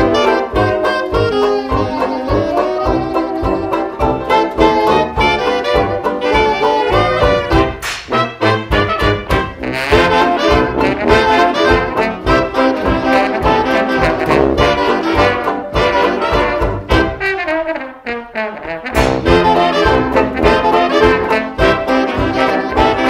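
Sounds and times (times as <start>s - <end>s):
hot jazz dance band: 0.0s - 23.0s.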